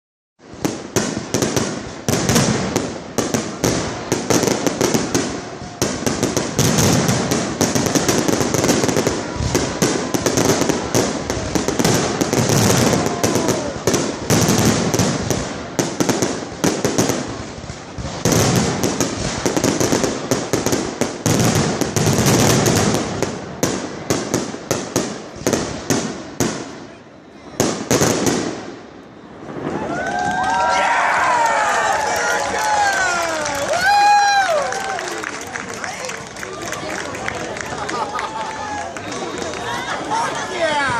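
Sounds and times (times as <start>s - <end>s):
fireworks exploding: 0.4s - 40.9s.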